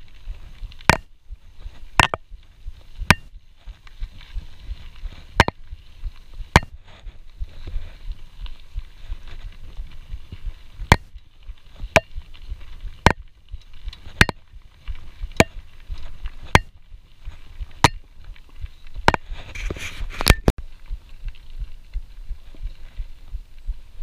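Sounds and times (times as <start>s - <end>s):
steady low rumble: 0.0s - 19.6s, 20.6s - 24.0s.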